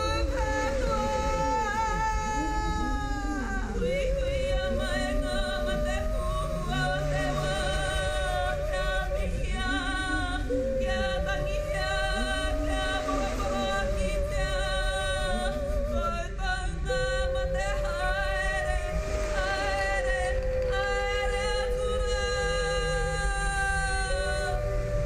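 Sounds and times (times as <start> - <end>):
women singing with vibrato: 0.0 - 25.0.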